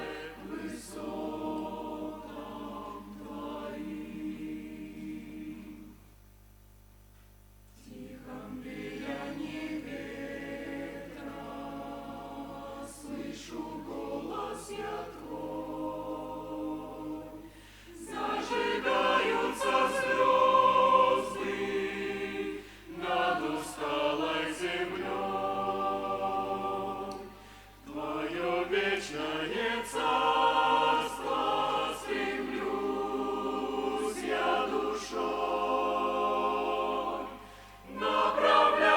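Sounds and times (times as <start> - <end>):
church choir singing a hymn: 0.0 - 6.0, 7.8 - 38.9.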